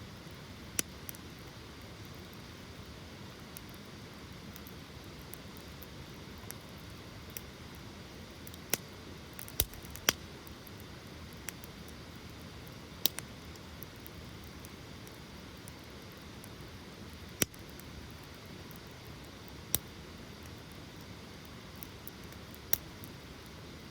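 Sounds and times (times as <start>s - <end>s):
campfire hissing: 0.0s - 23.9s
fire crackling and popping: 0.0s - 23.9s.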